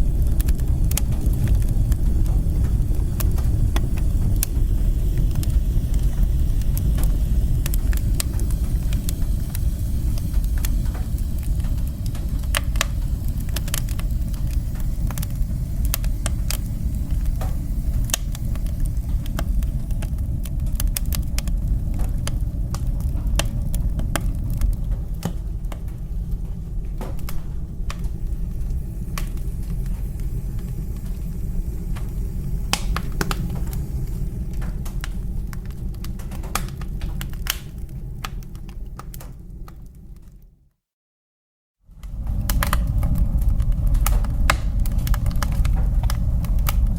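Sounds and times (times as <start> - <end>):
fire crackling and popping: 0.0 - 40.4, 41.9 - 46.9
fire rumbling: 0.0 - 40.6, 41.8 - 46.9.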